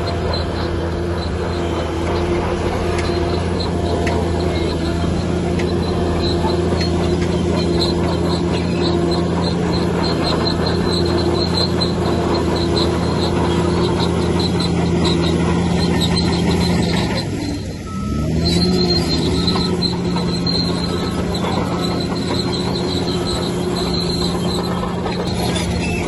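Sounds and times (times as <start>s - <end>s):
heavy diesel engine running: 0.0s - 26.0s
high-pitched squeak: 0.0s - 26.0s.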